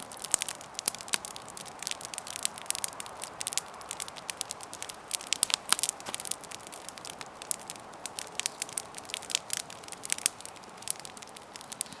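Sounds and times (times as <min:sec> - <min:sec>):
wood crackling and popping: 0:00.0 - 0:12.0.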